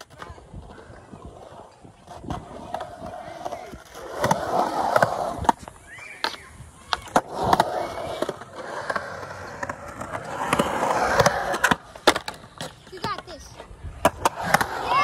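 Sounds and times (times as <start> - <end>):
skateboard wheels rolling on concrete: 0.0 - 15.0
skateboard clacks: 1.6 - 15.0.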